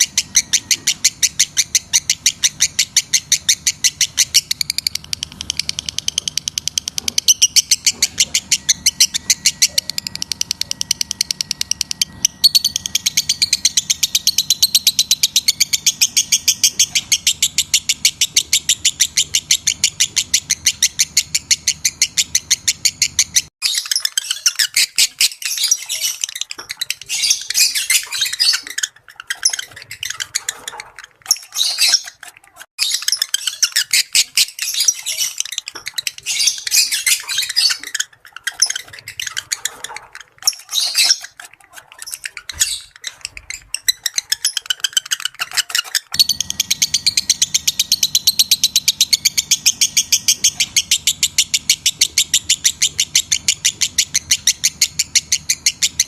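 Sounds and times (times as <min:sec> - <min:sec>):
lovebirds chirping and twittering: 0:00.0 - 0:56.0.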